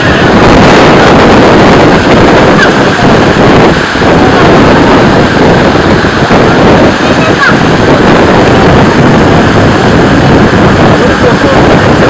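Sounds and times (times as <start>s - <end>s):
river rapids rushing: 0.0s - 12.0s
wind buffeting microphone: 0.0s - 12.0s.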